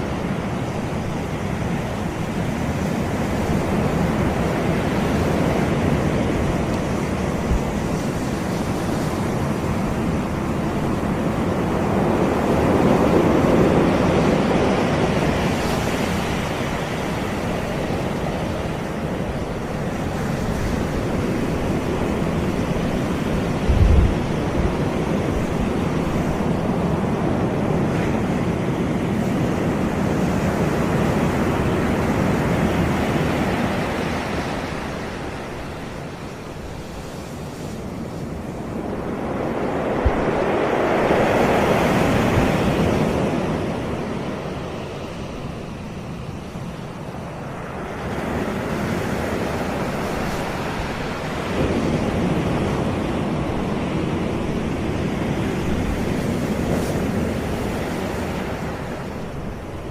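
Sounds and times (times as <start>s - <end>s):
surf washing onto beach: 0.0s - 59.9s.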